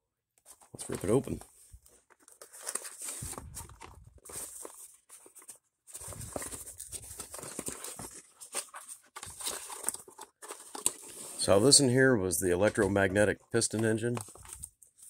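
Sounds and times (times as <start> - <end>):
cardboard box being unpacked: 0.5 - 11.8, 13.8 - 15.0.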